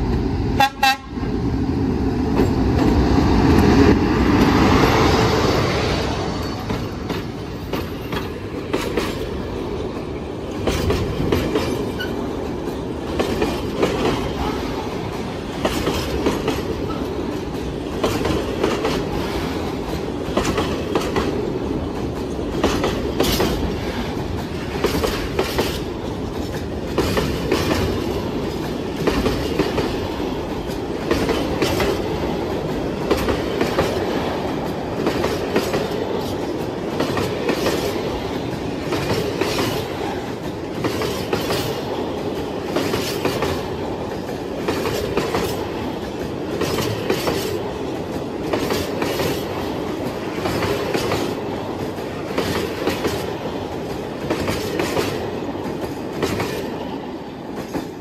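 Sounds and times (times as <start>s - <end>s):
train rumble: 0.0s - 58.0s
train wheels clattering over rail joints: 6.2s - 58.0s.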